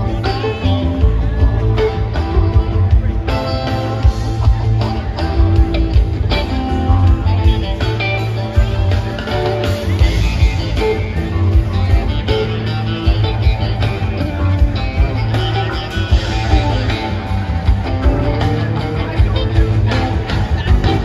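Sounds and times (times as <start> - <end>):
electric guitar: 0.0 - 21.0
live rock band playing: 0.0 - 21.0.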